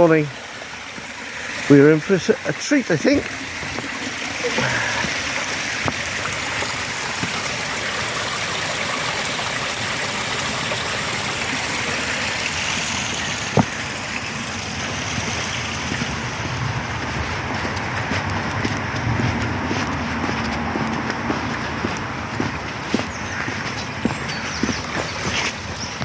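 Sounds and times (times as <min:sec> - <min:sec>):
water rushing over waterfall: 0:00.0 - 0:26.0.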